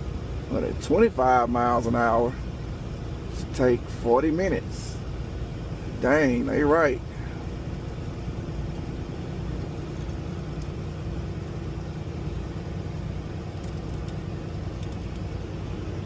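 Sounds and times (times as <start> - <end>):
faint steady hum: 0.0 - 16.0
truck engine and road noise: 0.0 - 16.0.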